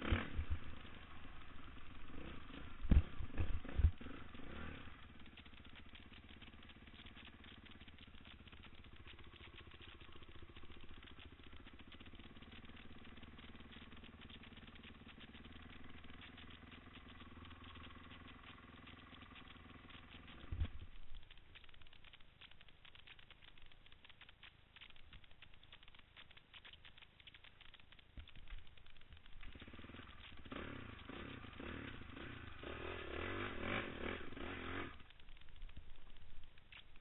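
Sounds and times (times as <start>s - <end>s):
motorcycle engine running: 0.0s - 37.0s
light rattling and clicking: 0.8s - 37.0s.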